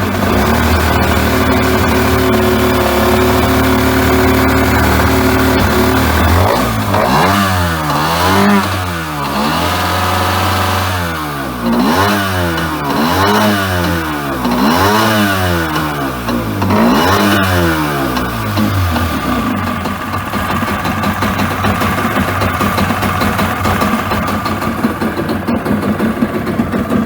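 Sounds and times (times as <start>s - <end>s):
jet ski engine revving: 0.0s - 27.0s.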